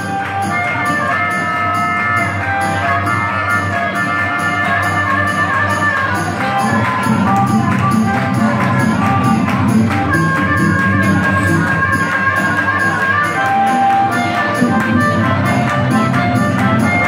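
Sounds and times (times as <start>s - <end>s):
acoustic guitar strumming: 0.0s - 17.0s
blues harmonica: 0.0s - 17.0s.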